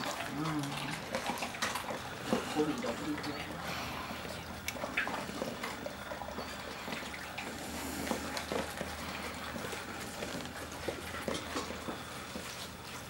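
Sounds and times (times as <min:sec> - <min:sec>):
dog lapping water: 0:00.0 - 0:13.0.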